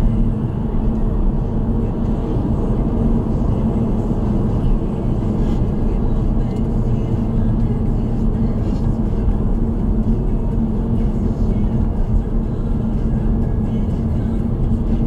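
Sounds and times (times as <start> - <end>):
car tyres and engine rumble: 0.0 - 15.0
constant drone: 0.0 - 15.0.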